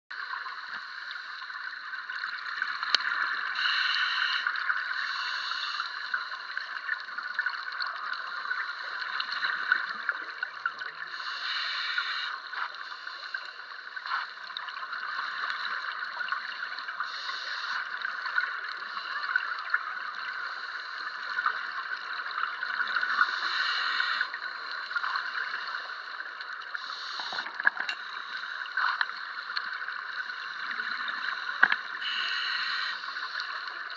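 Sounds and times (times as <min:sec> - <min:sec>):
underwater hiss and crackle: 0:00.1 - 0:33.9.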